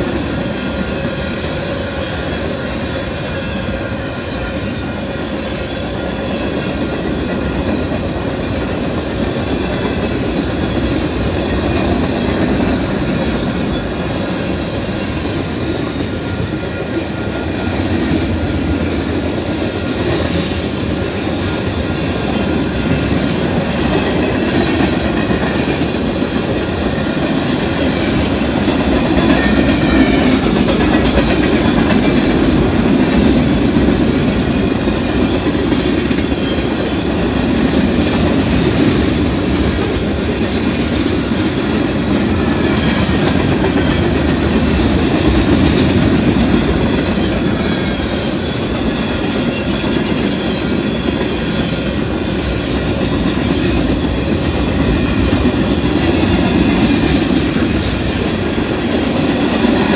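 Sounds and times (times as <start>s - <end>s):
steel wheels rumbling on rails: 0.0s - 59.9s.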